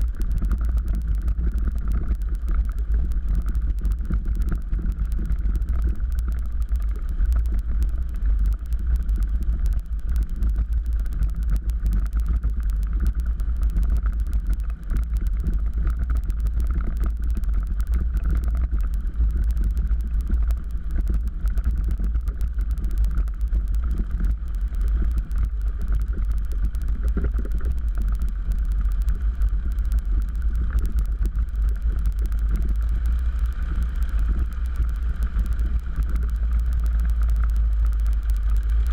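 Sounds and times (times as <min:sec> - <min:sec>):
propeller plane engine rumbling: 0:00.0 - 0:38.9.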